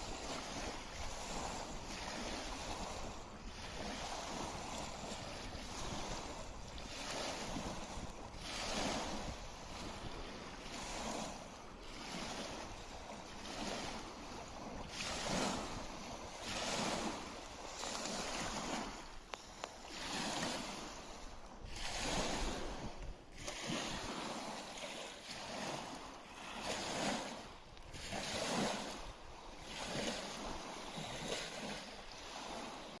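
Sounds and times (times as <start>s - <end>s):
lake waves lapping on shore: 0.0s - 33.0s.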